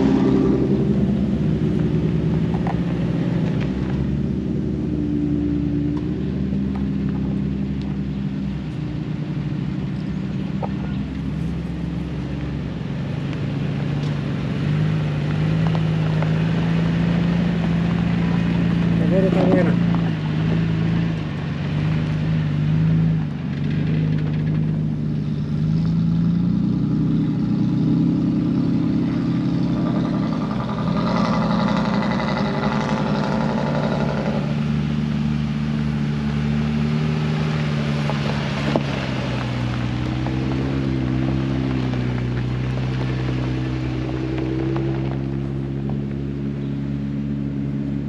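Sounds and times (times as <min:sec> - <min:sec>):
off-road engines running at low revs: 0:00.0 - 0:48.0.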